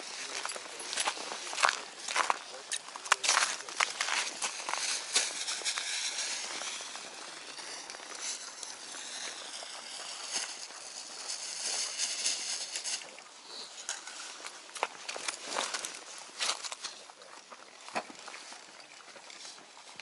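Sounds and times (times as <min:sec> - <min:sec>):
footsteps crunching crusty snow: 0:00.0 - 0:18.6
clothing rustle: 0:00.0 - 0:20.0.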